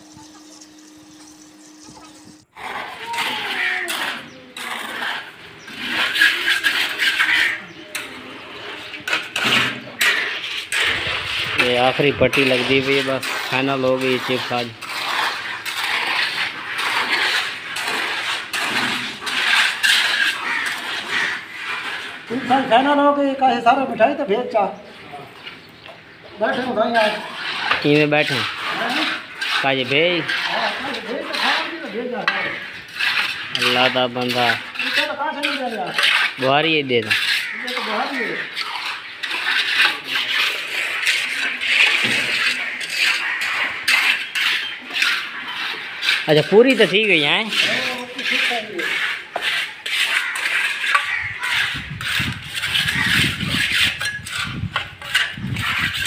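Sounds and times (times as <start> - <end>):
trowel scraping wet concrete: 0.0 - 25.6, 26.4 - 56.0.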